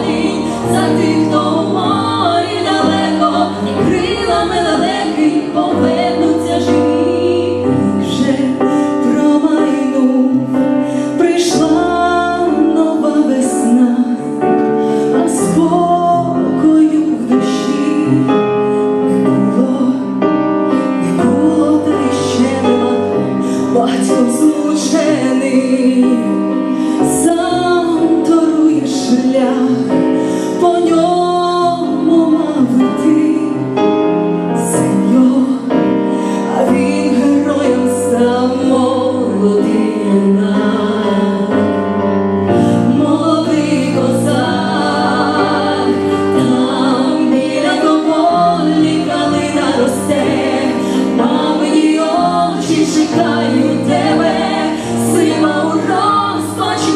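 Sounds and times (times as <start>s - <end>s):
women singing duet: 0.0s - 20.2s, 20.9s - 41.8s, 42.6s - 56.9s.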